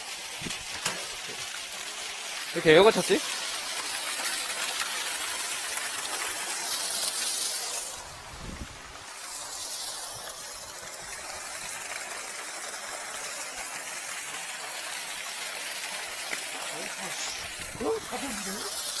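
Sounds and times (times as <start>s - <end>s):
water rushing from a pipe: 0.0s - 19.0s.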